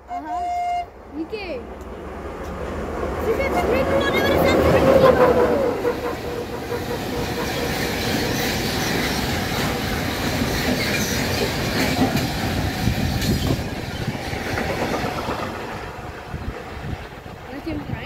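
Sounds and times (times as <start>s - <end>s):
train wheels rumbling on rails: 1.0s - 18.0s
train wheels clattering: 1.8s - 18.0s.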